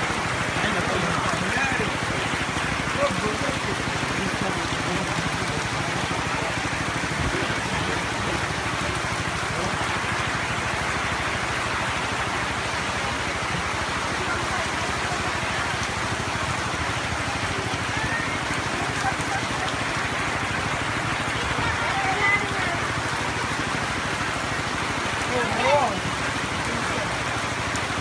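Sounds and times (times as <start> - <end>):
water rushing: 0.0 - 28.0.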